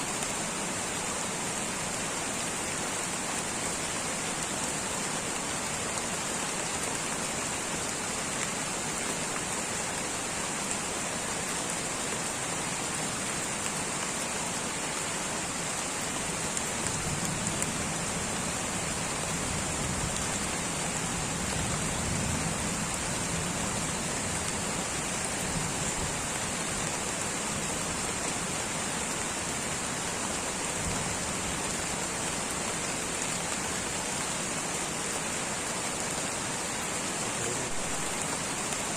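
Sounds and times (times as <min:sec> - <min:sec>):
light rain on foliage: 0:00.0 - 0:38.9.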